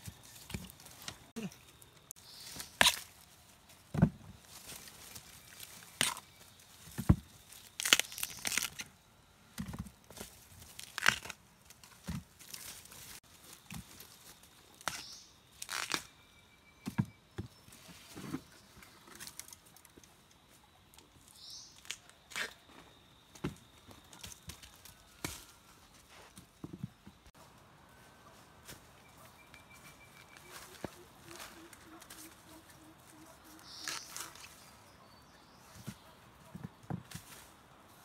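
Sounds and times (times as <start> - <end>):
dry leaves and twigs crackling: 0.0 - 16.2, 17.6 - 38.0.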